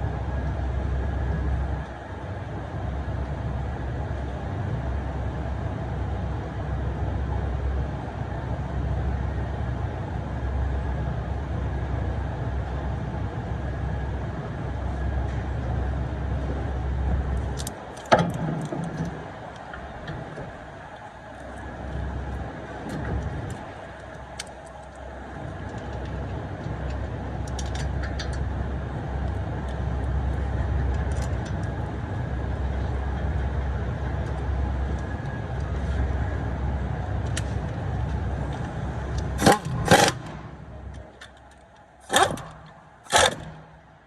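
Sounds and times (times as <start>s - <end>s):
car engine rumbling: 0.0s - 44.0s.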